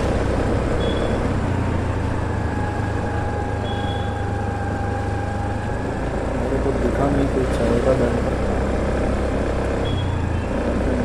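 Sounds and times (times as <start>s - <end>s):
scooter ride rumble: 0.0s - 11.0s.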